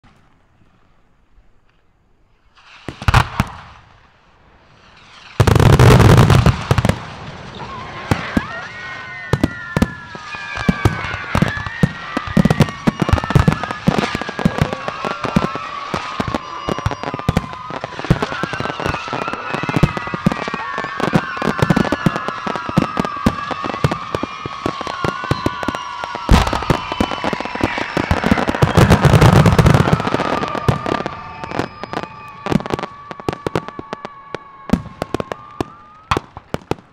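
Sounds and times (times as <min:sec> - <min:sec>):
firework bangs and crackling: 0:00.0 - 0:36.9
whistling fireworks: 0:00.0 - 0:36.9.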